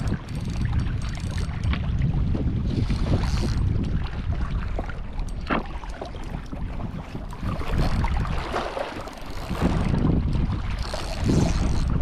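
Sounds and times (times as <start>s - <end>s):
water lapping against rocks: 0.0s - 12.0s
wind buffeting microphone: 0.0s - 12.0s.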